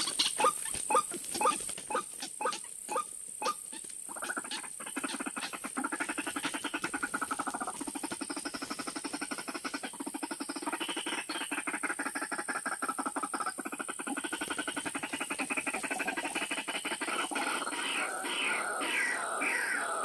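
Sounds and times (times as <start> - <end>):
bird croaking calls: 0.0 - 20.0.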